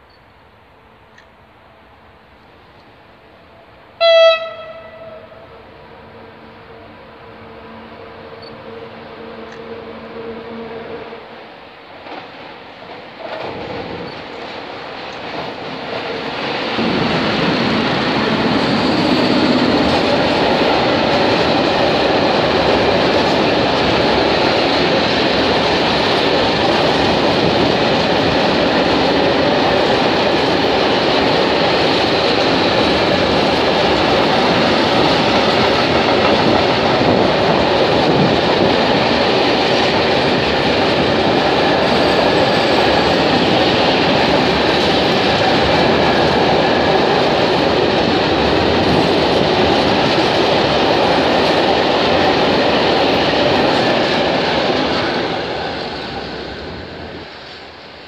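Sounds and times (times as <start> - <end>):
train wheels running on rails: 8.3 - 58.0.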